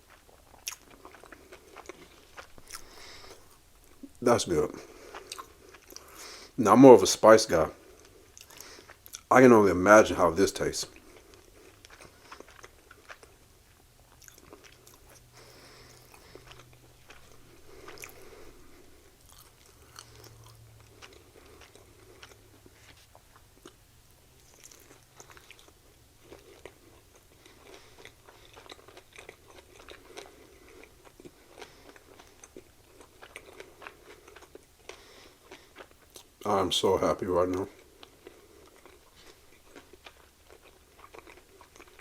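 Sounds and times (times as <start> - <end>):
person chewing and biting: 0.0 - 6.2, 7.8 - 9.3, 11.0 - 36.4, 37.8 - 42.0.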